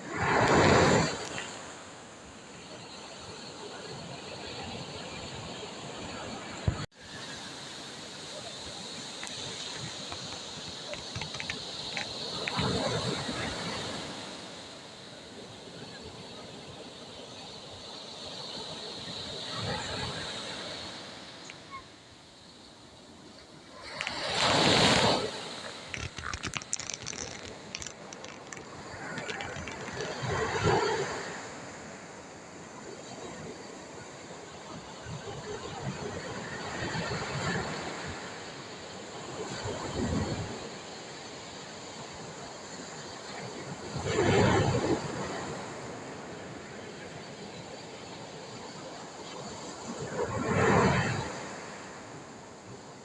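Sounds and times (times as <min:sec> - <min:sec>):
sea waves washing on shore: 0:00.0 - 0:53.0.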